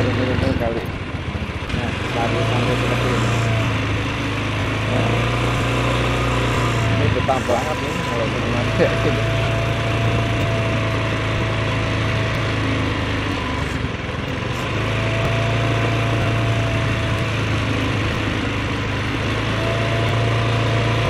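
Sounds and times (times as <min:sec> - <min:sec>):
small motorbike engine running: 0:00.0 - 0:21.0.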